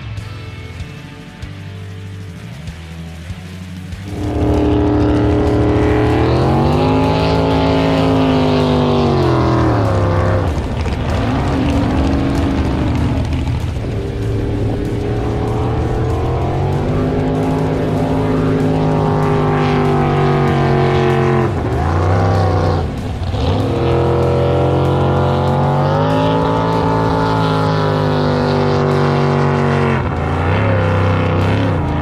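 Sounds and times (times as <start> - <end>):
jet boat engine revving: 4.0 - 32.0.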